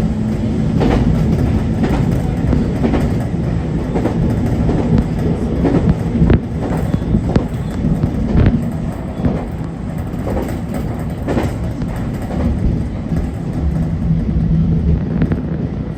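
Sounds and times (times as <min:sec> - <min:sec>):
train rumble and hum: 0:00.0 - 0:15.9
wheels clacking over rail joints: 0:00.3 - 0:15.4.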